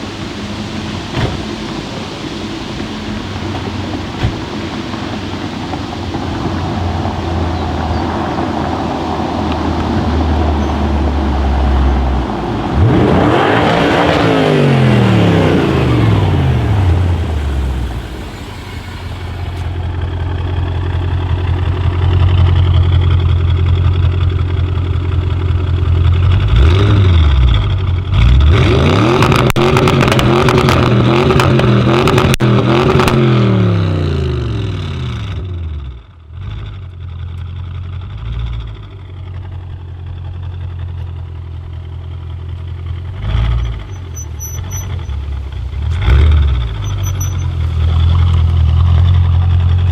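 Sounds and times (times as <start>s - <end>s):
exhaust crackles and pops: 0.0s - 33.6s, 36.4s - 49.9s
car engine revving: 0.0s - 49.9s.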